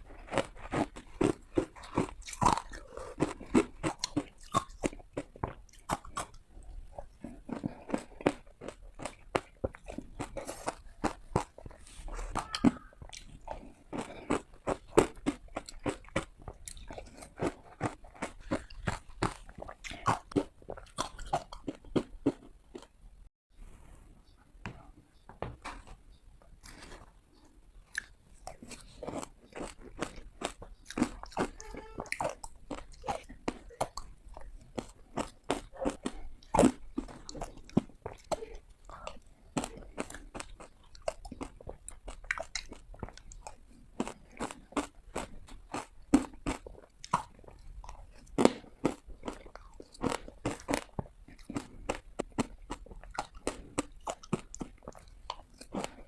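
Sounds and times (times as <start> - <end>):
ice being chewed: 0.0 - 23.0, 26.4 - 56.0.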